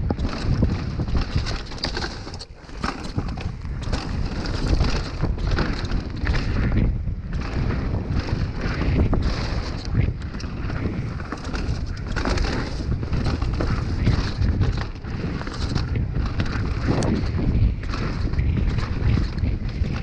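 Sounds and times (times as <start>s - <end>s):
bike clattering over bumps: 0.0s - 20.0s
tyres rumbling on dirt: 0.0s - 20.0s
wind buffeting microphone: 0.0s - 20.0s.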